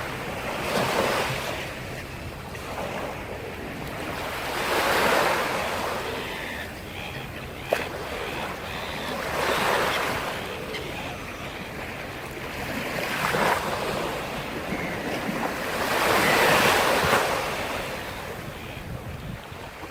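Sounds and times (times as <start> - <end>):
sea waves breaking on shore: 0.0 - 19.9.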